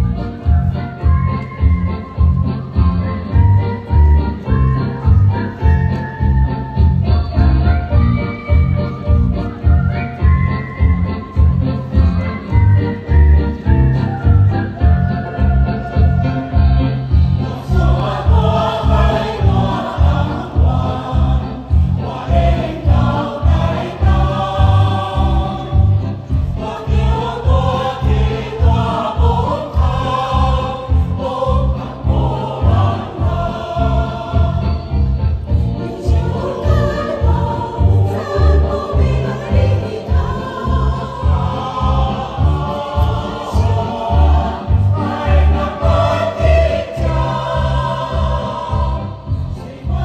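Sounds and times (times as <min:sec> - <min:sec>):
choir singing upbeat song: 0:00.0 - 0:50.0.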